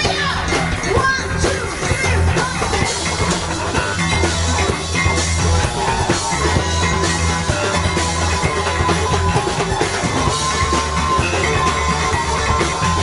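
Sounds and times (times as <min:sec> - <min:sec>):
drum kit: 0:00.0 - 0:13.0
electric guitars: 0:00.0 - 0:13.0
low bass line: 0:00.0 - 0:13.0.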